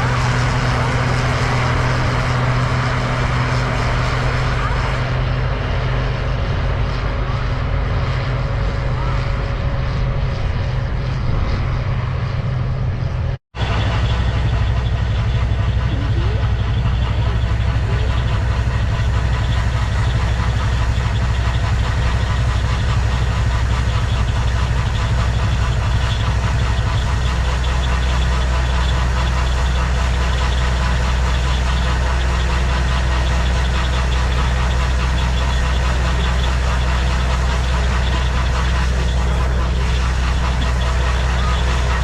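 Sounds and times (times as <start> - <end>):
farm machine engine droning: 0.0 - 42.0.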